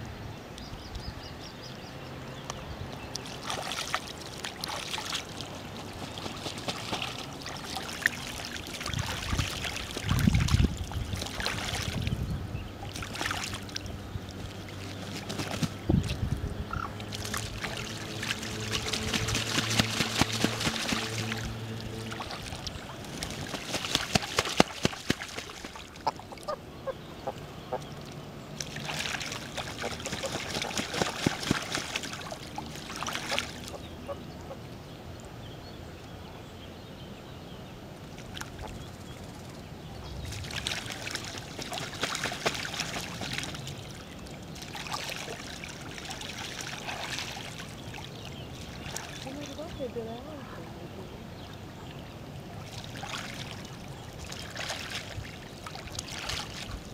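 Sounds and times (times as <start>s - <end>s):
geese splashing in water: 2.9s - 34.6s, 40.0s - 56.9s.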